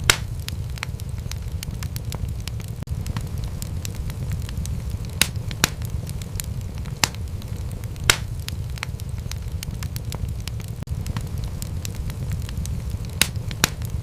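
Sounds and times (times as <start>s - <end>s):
sharp pops of fire: 0.0s - 14.0s
wood fire crackling: 0.0s - 14.0s.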